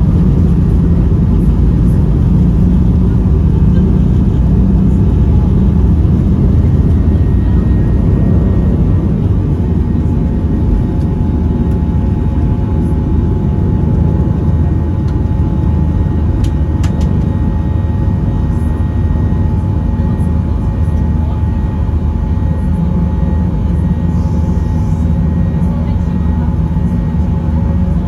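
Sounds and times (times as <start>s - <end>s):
faint engine tones: 0.0s - 28.0s
jet engine cabin rumble: 0.0s - 28.0s.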